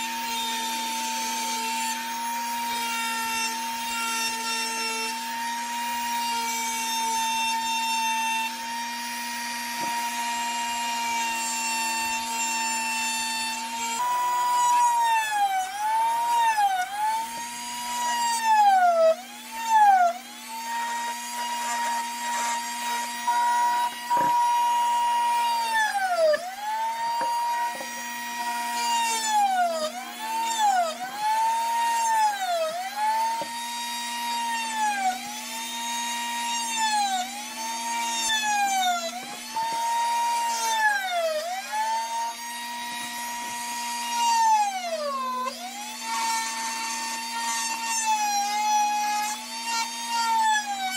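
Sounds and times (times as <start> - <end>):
rotary tool high-pitched whine: 0.0 - 50.9.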